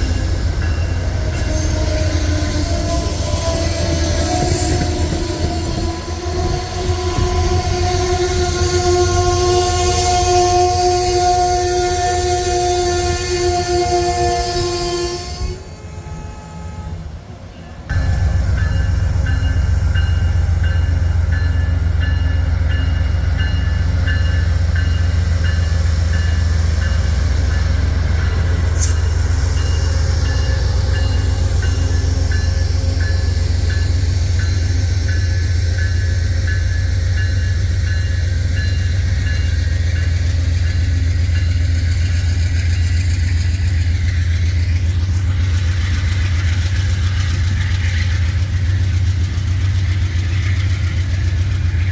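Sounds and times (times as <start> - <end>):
crossing bell dinging: 0.0 - 43.6
diesel locomotive engine rumble: 0.0 - 51.9.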